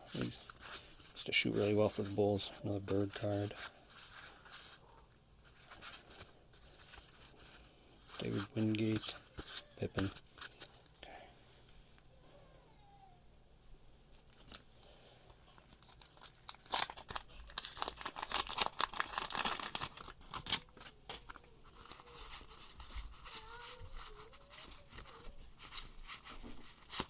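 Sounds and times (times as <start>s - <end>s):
cards being handled: 0.1s - 11.0s, 15.3s - 27.0s
wax paper wrapper crinkling: 0.1s - 11.0s, 14.2s - 27.0s.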